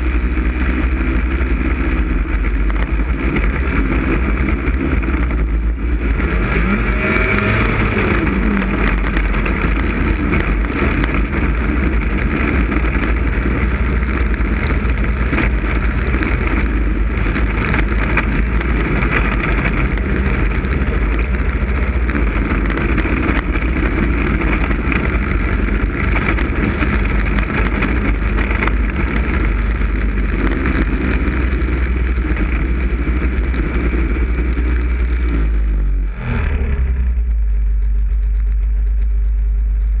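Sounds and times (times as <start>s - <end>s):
snowmobile engine running: 0.0s - 40.0s
wind rumble on microphone: 0.0s - 40.0s.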